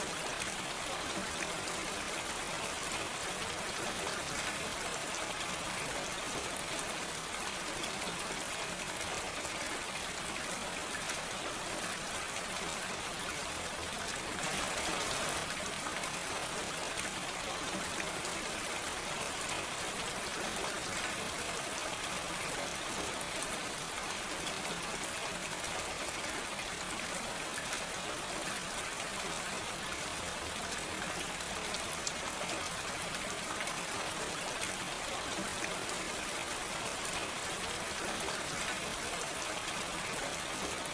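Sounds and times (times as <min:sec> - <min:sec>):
gentle rain: 0:00.0 - 0:40.9.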